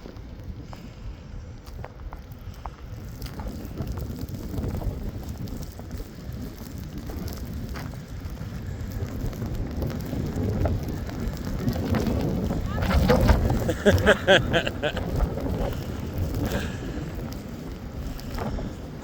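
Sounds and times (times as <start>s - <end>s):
wind gusting over microphone: 0.0s - 19.0s.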